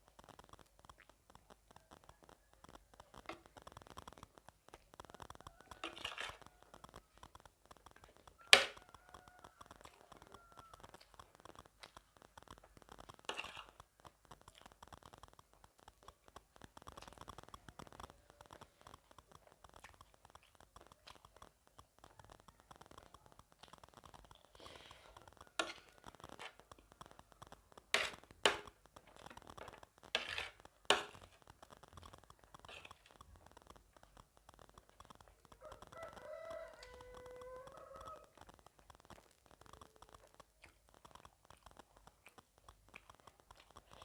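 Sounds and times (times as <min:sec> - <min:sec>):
crunching and chewing: 0:00.0 - 0:44.0
sharp clicks: 0:00.0 - 0:44.0.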